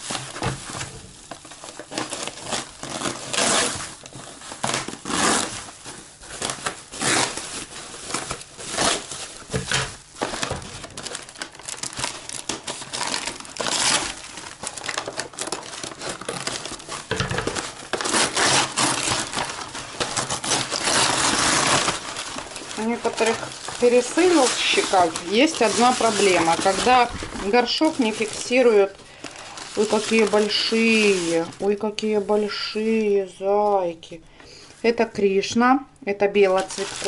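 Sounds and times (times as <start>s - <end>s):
paper rustling: 0.0s - 33.0s, 36.5s - 37.0s
foil insulation crinkling: 0.0s - 33.9s, 36.2s - 37.0s.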